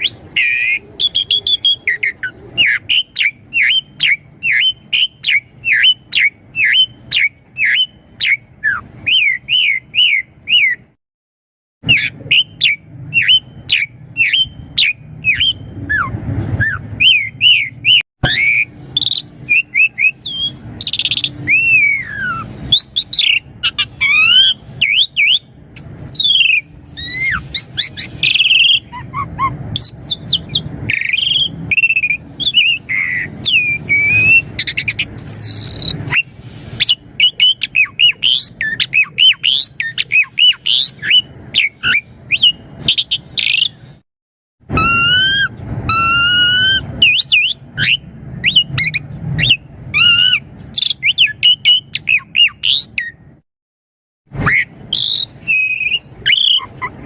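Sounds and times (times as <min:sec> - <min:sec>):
starling singing whistles: 0:00.0 - 0:10.9, 0:11.8 - 0:43.9, 0:44.7 - 0:53.2, 0:54.4 - 0:57.0.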